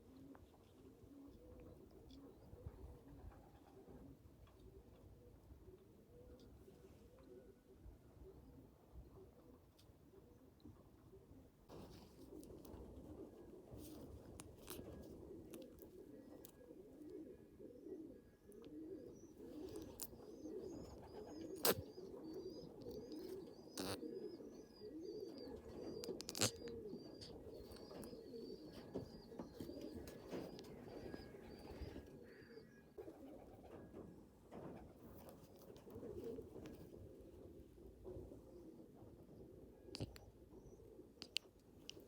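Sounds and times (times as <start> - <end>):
pigeons cooing: 0.0 - 42.0.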